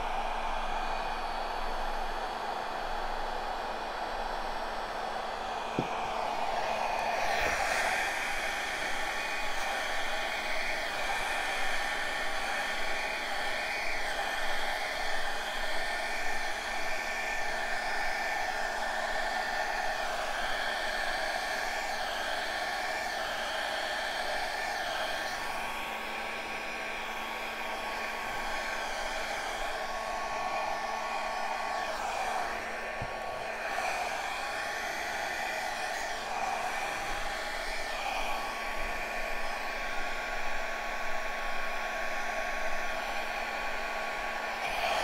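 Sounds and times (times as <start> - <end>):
hair dryer blowing: 0.0 - 45.0.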